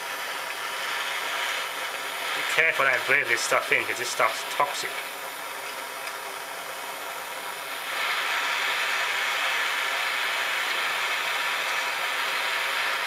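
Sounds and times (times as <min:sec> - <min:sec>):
gas blowtorch hissing: 0:00.0 - 0:13.0.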